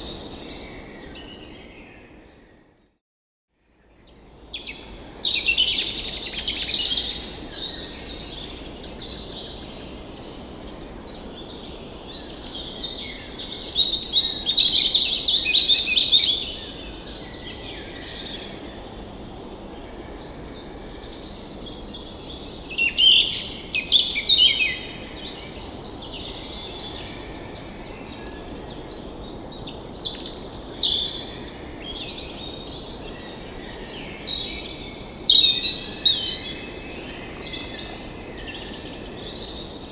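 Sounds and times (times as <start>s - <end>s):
songbirds chirping and trilling: 4.1s - 39.9s.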